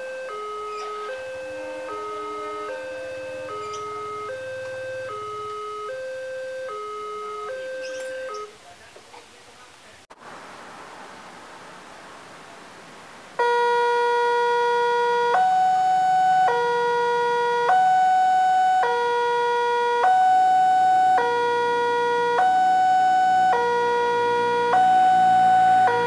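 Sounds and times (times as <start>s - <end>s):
level crossing two-tone alarm: 0.0s - 8.6s, 13.4s - 26.0s.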